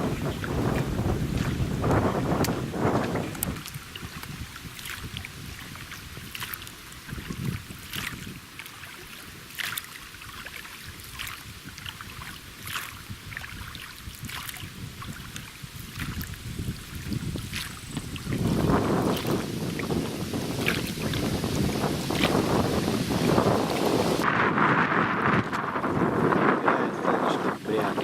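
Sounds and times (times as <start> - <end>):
oars splashing in water: 0.0 - 24.2
wind rumbling on microphone: 0.0 - 28.0.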